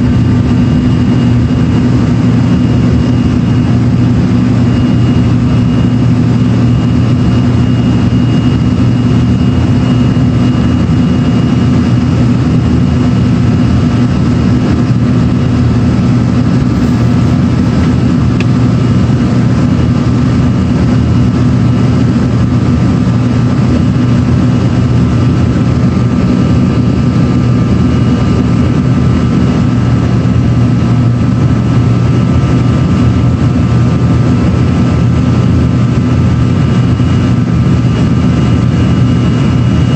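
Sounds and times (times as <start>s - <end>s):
faint high whine: 0.0s - 39.9s
jet cabin drone: 0.0s - 39.9s.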